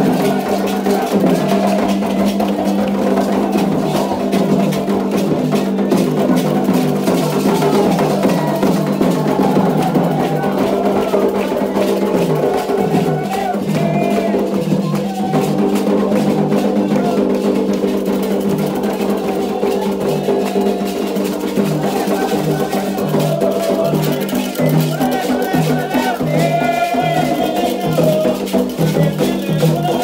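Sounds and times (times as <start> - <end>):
bell or wood block beat: 0.0 - 30.0
hand drums playing: 0.0 - 30.0
voices singing: 0.0 - 30.0.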